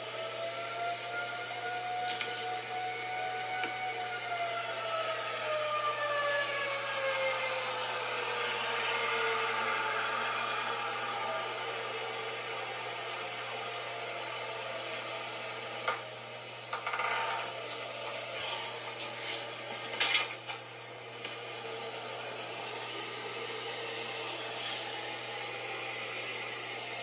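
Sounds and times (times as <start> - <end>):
tornado siren winding down: 0.0 - 27.0.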